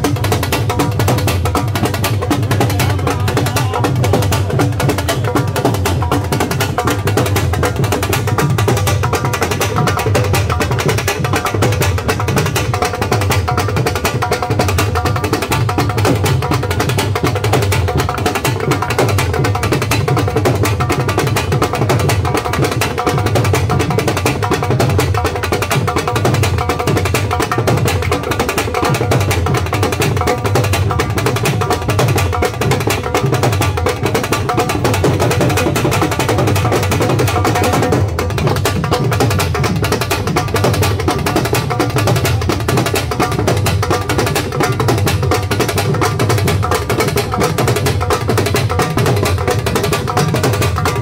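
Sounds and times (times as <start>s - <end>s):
drums playing fast beat: 0.0s - 51.0s.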